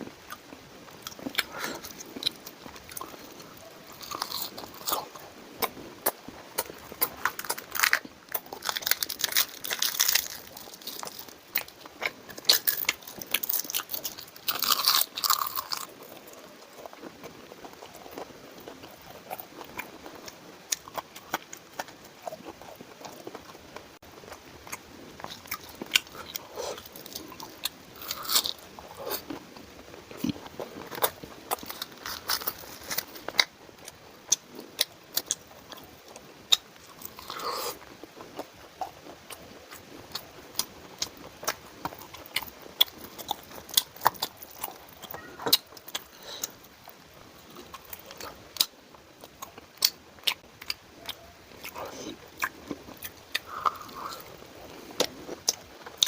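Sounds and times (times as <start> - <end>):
person chewing crunchy food: 0.2 - 56.0.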